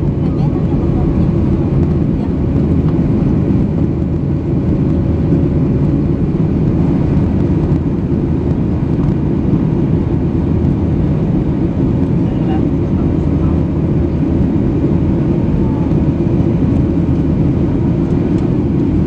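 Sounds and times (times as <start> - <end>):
jet engine and airflow rumble: 0.0 - 19.0.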